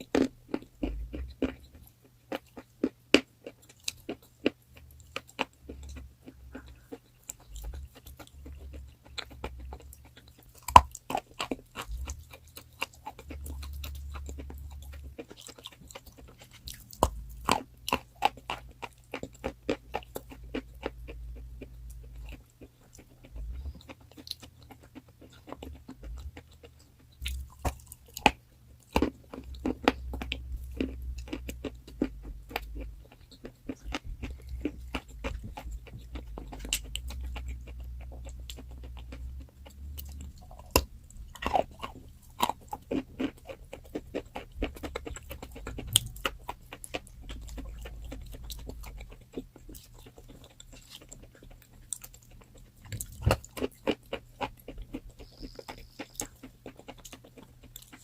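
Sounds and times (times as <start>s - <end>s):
chalk crunching being chewed: 0.0s - 58.0s
faint low hum: 0.0s - 58.0s.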